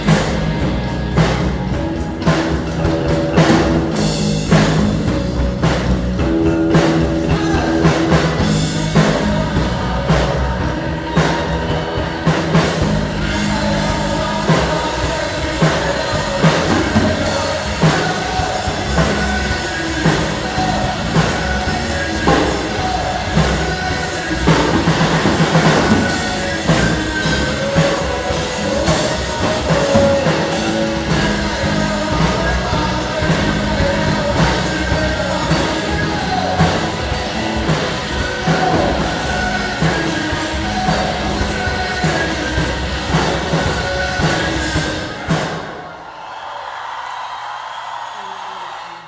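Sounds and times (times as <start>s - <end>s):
loud rock music: 0.0s - 46.2s.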